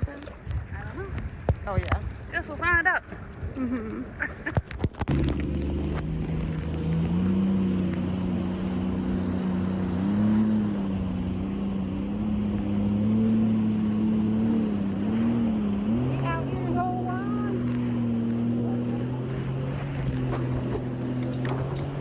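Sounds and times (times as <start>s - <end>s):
watercraft engine running: 0.0s - 22.0s
wind and water noise: 0.0s - 22.0s.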